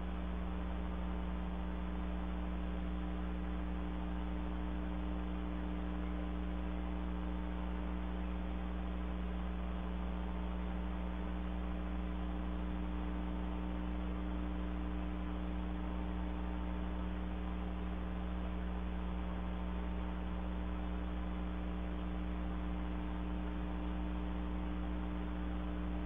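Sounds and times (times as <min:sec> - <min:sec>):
mains hum: 0:00.0 - 0:26.0.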